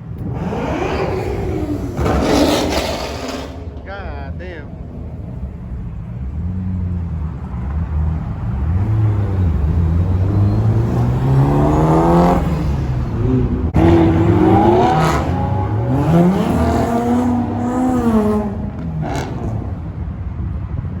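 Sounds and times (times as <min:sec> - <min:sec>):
car engine accelerating: 0:00.0 - 0:20.2.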